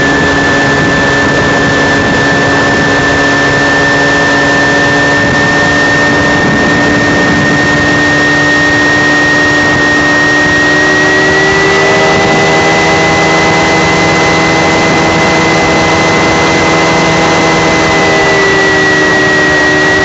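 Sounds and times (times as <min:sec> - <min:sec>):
rushing air: 0:00.0 - 0:20.0
small aircraft engine and propeller: 0:00.0 - 0:20.0.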